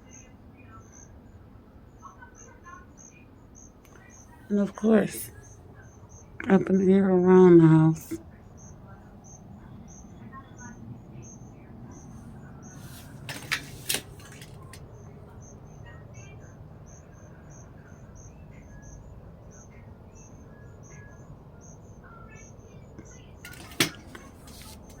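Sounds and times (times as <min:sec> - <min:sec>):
low background hum: 0:00.0 - 0:25.0
crickets chirping: 0:00.1 - 0:25.0.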